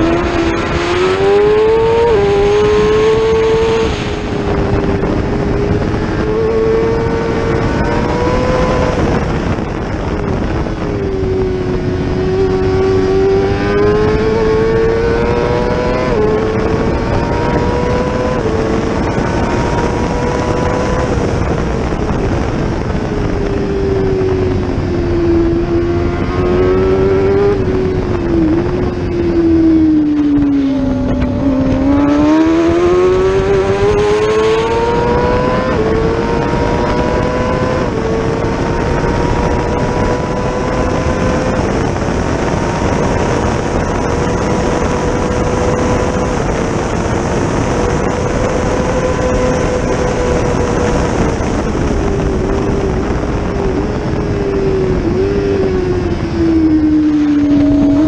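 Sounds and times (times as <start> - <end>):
motorcycle engine at high revs: 0.0 - 58.0
wind rush: 0.0 - 58.0.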